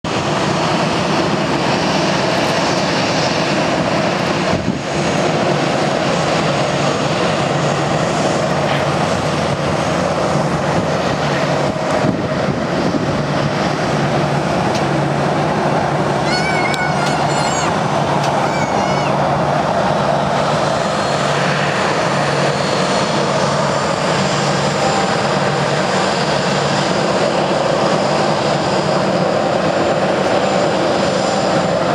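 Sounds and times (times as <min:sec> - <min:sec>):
turboprop plane engines droning: 0:00.0 - 0:31.9.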